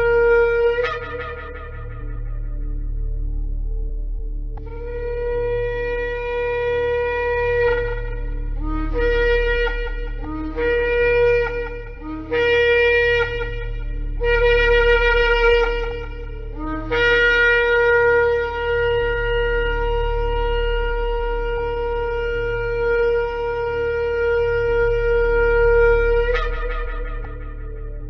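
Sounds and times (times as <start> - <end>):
ram's horn blowing: 0.0 - 3.5, 4.6 - 28.0
steady low hum: 0.0 - 28.0.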